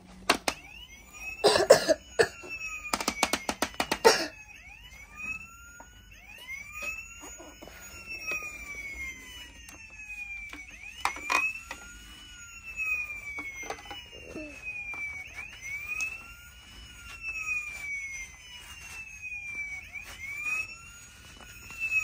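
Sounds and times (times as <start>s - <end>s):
toy electronic siren wailing: 0.0s - 22.0s.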